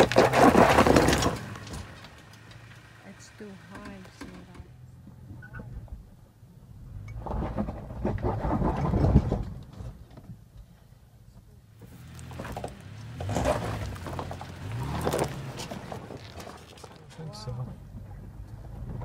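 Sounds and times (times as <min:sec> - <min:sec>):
off-road vehicle engine crawling: 0:00.0 - 0:19.0
vehicle rattling over rocks: 0:00.0 - 0:19.0.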